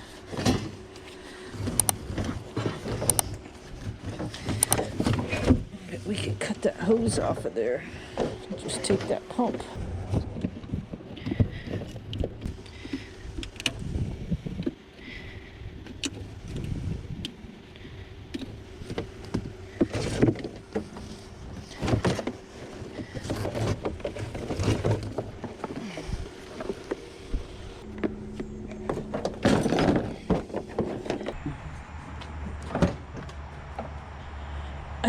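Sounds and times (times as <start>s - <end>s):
junk being handled and moved: 0.0s - 35.0s
steady low hum: 0.0s - 35.0s.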